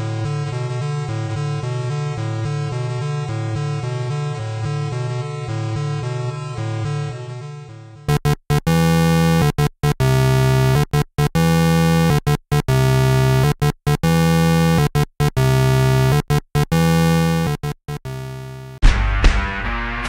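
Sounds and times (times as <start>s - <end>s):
buzzy synthesizer music: 0.1s - 18.8s.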